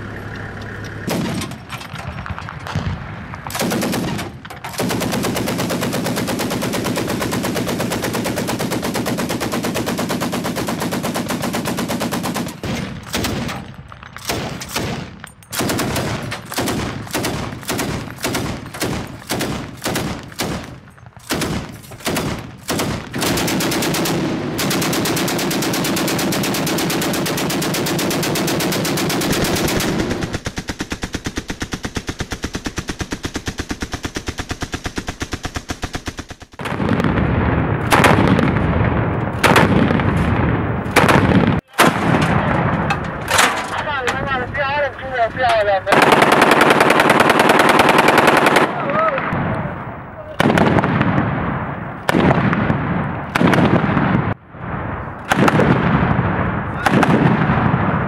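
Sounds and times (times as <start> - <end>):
heavy machine gun firing: 1.0 - 44.4, 45.9 - 49.5, 50.4 - 54.4, 55.3 - 58.0.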